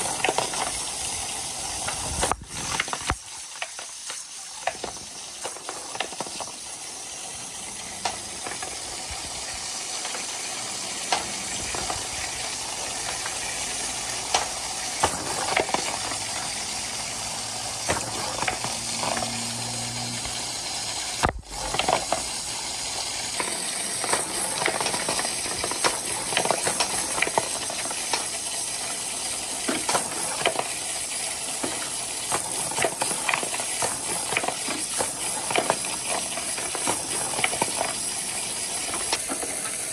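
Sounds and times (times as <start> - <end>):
water rushing down gutters: 0.0 - 39.9
wooden balls knocking and clattering: 0.0 - 39.9.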